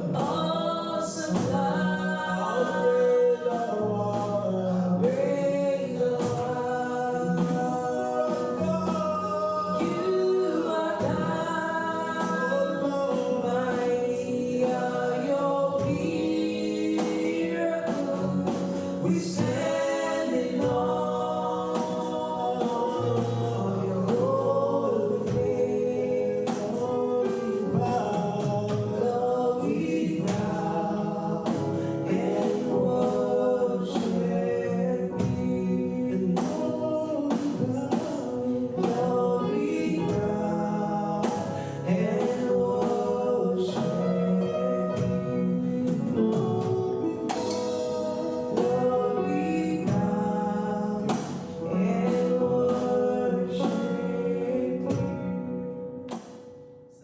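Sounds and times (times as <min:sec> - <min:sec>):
gospel worship music with singing: 0:00.0 - 0:57.0.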